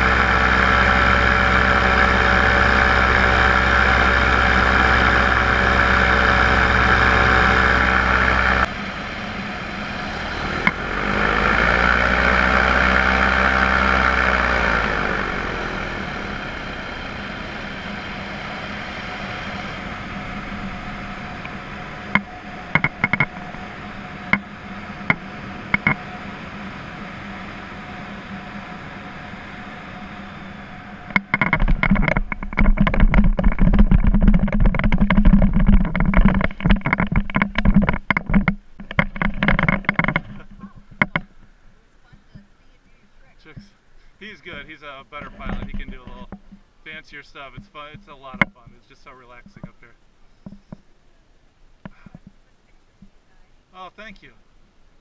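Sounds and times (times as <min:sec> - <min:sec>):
irregular choppy rumble: 0:00.0 - 0:55.0
paramotor engine and propeller: 0:00.0 - 0:55.0.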